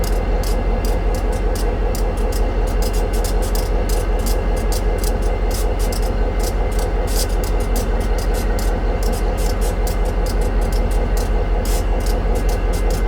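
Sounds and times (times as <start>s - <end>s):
rapid high ticks and clicks: 0.0s - 13.0s
train rumbling: 0.0s - 13.0s.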